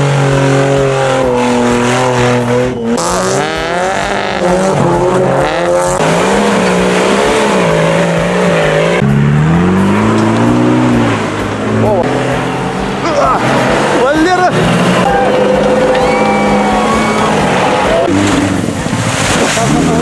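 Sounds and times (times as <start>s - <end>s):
engine running hard at high revs: 0.0s - 20.0s.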